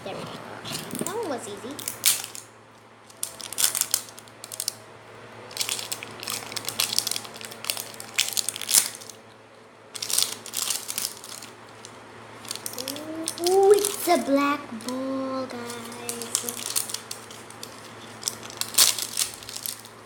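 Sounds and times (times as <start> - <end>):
plastic wrapping crinkling: 0.6 - 4.8, 5.4 - 9.3, 9.9 - 20.0.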